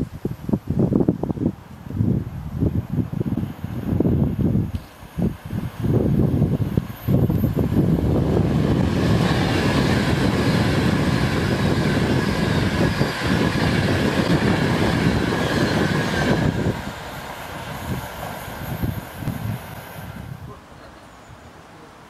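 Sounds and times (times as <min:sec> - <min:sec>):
train wheels rushing on rail: 0:01.8 - 0:21.2.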